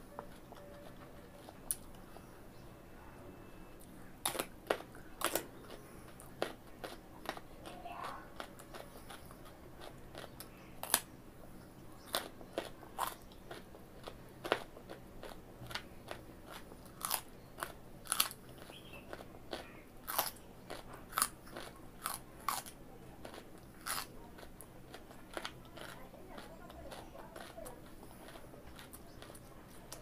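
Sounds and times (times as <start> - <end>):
carrot being bitten and chewed: 0.1 - 2.6, 3.8 - 30.0.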